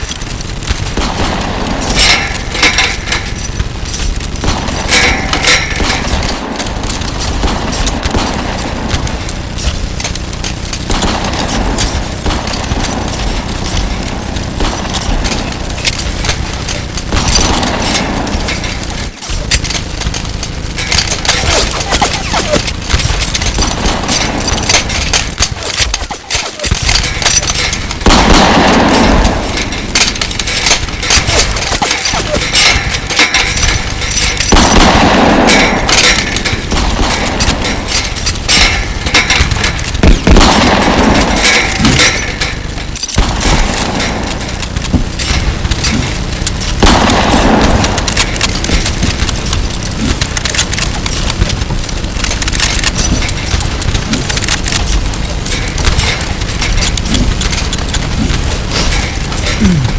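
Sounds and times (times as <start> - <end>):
rapid gunfire: 0.0 - 59.9.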